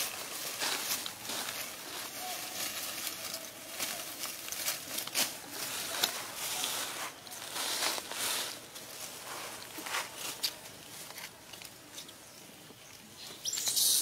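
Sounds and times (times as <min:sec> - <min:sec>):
dry leaves rustling and crackling: 0:00.0 - 0:12.1.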